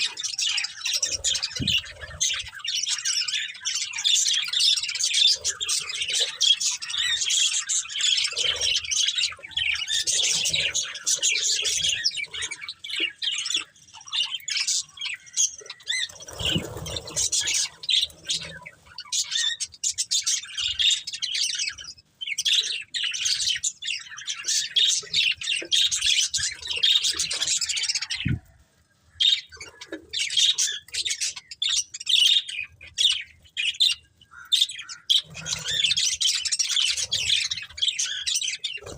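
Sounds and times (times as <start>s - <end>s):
budgerigars chattering and chirping: 0.0s - 28.5s, 29.1s - 38.9s.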